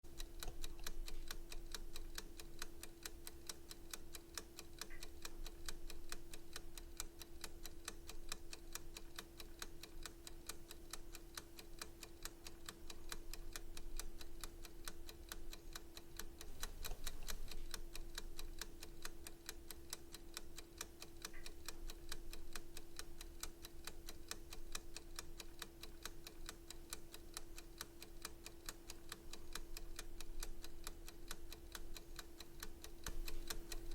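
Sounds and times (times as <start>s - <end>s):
clock ticking: 0.1s - 33.9s
faint steady hum: 0.1s - 33.9s.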